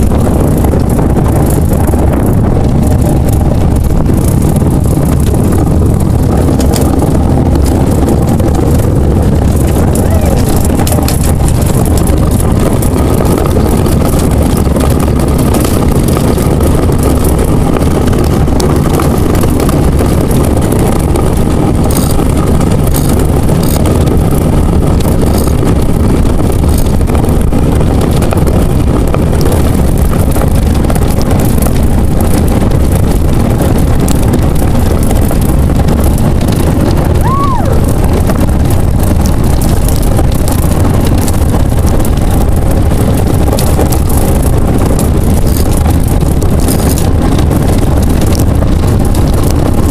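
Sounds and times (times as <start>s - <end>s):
runners rumbling over ice: 0.0s - 49.9s
wind buffeting microphone: 0.0s - 49.9s.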